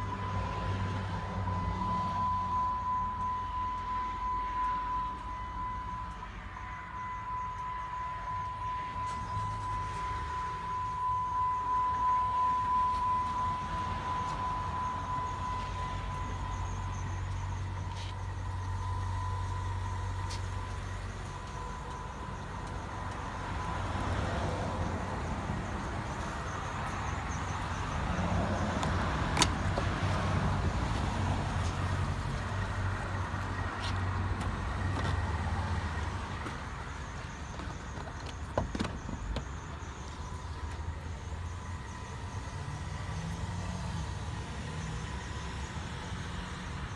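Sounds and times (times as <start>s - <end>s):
car engine idling: 0.0s - 46.1s.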